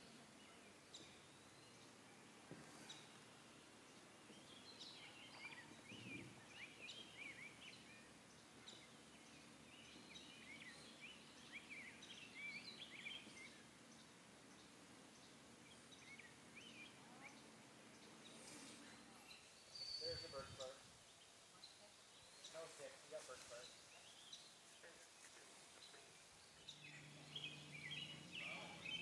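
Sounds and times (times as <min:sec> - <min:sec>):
songbird singing: 0:00.0 - 0:29.0
steady outdoor hiss: 0:00.0 - 0:29.0.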